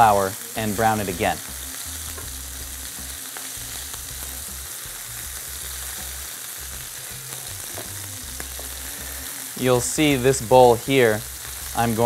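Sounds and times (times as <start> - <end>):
beef sizzling in oil: 0.0 - 12.0.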